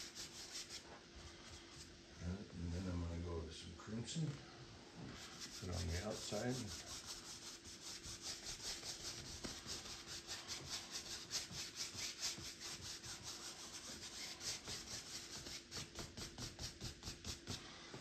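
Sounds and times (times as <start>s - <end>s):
paintbrush scrubbing canvas: 0.0s - 1.9s, 5.1s - 18.0s.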